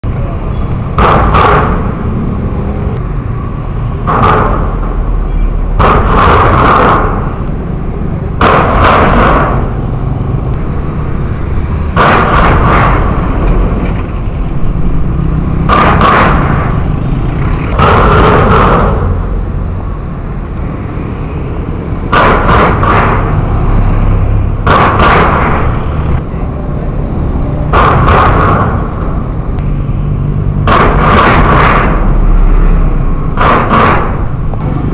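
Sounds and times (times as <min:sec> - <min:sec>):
steady traffic noise: 0:00.0 - 0:34.9
steel road plates banging: 0:00.1 - 0:26.5, 0:27.4 - 0:29.8, 0:30.5 - 0:34.9.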